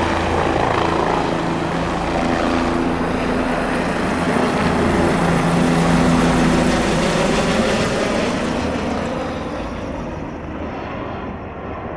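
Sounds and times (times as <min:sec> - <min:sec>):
helicopter flying away: 0:00.0 - 0:11.9.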